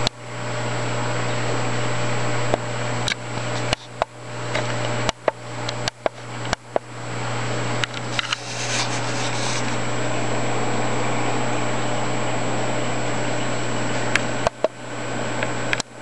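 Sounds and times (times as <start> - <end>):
aquarium pumps humming: 0.0 - 16.0.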